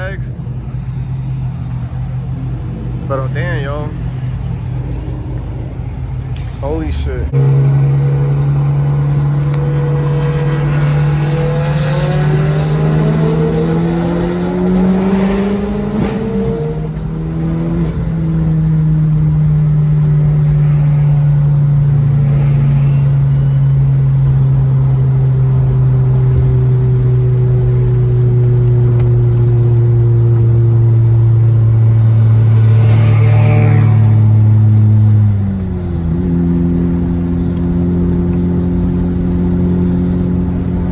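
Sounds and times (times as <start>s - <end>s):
loud car engine droning: 0.0s - 40.9s
other car engines revving: 0.0s - 40.9s.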